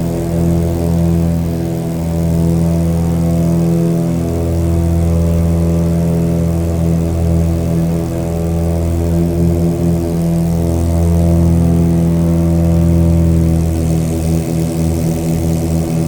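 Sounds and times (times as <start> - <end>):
propeller airplane engine droning: 0.0 - 16.0.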